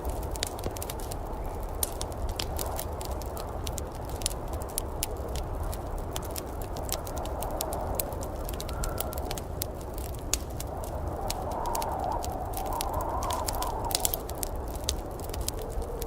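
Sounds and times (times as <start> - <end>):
low rumbling noise: 0.0 - 16.0
wood fire crackling: 0.0 - 16.0.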